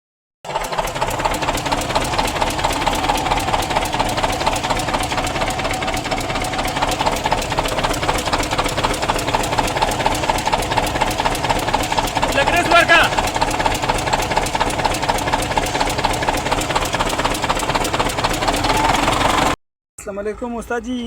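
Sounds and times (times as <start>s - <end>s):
diesel engine knocking: 0.5s - 19.6s.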